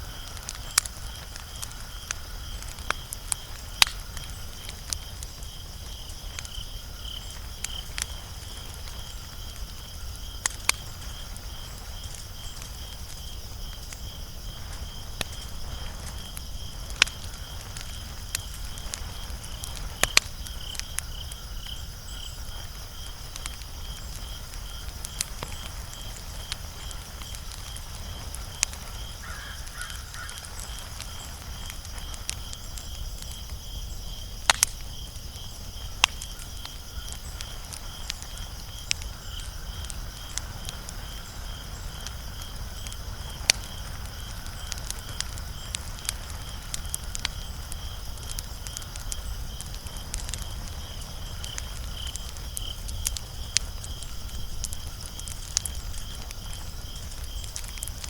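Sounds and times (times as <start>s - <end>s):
fire crackles and pops: 0.0s - 58.0s
wood fire rumbling: 0.0s - 58.0s.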